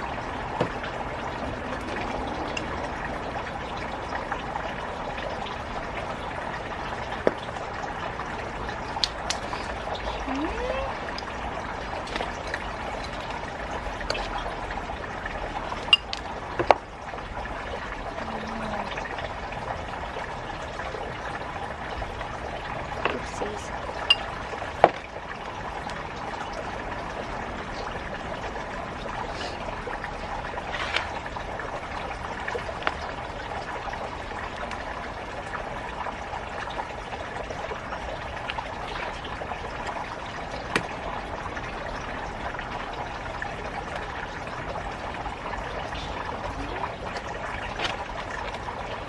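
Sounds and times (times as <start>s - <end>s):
water trickling: 0.0s - 49.0s.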